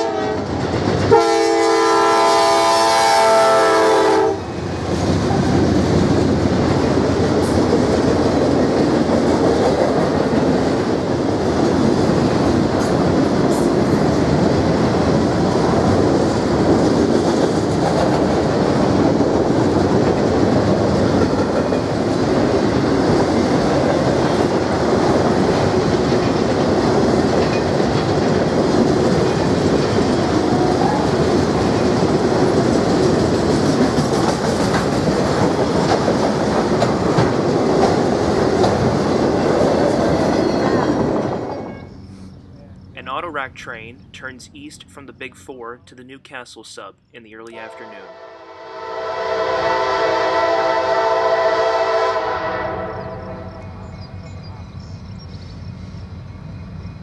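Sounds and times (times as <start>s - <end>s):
freight train wheels rumbling: 0.0s - 46.4s, 47.2s - 57.0s.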